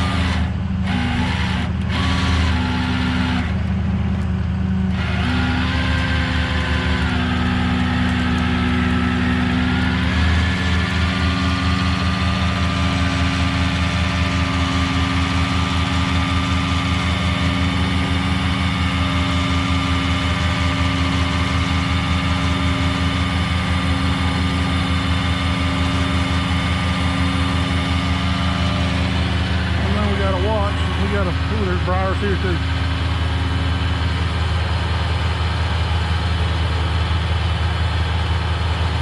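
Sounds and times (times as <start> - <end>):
truck engine idling with low throb: 0.0 - 39.0.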